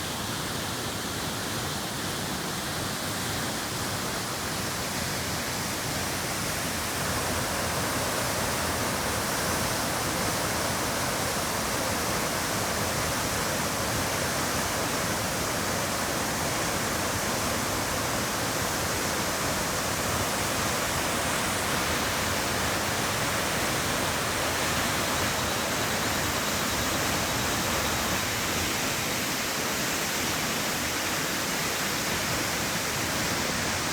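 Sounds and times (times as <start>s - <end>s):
waterfall roaring: 2.1s - 33.9s.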